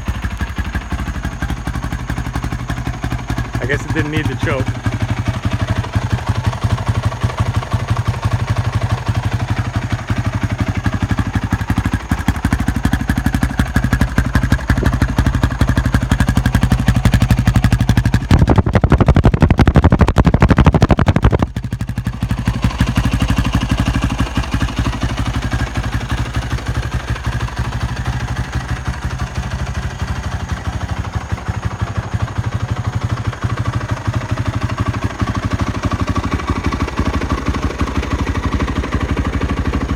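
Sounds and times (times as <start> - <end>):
dirt bike engine idling and revving: 0.0 - 39.9.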